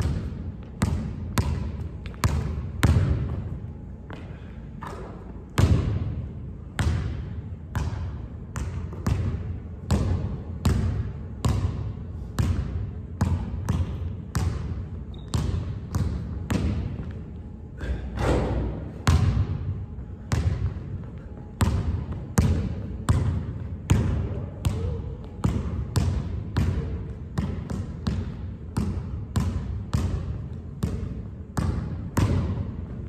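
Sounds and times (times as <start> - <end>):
basketball bouncing on wooden floor: 0.0 - 3.5, 4.8 - 17.2, 18.6 - 19.7, 20.3 - 20.8, 21.6 - 33.0.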